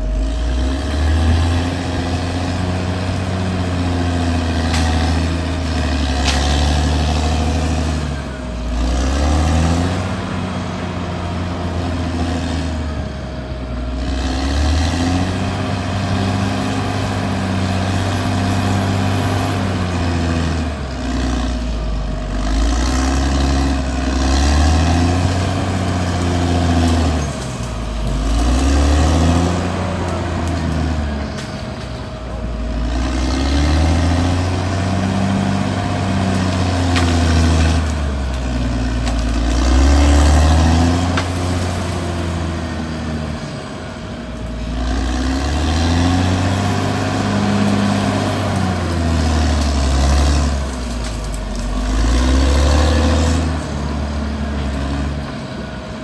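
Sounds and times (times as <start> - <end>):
steady whine: 0.0 - 45.6
bulldozer diesel engine working: 0.0 - 56.0.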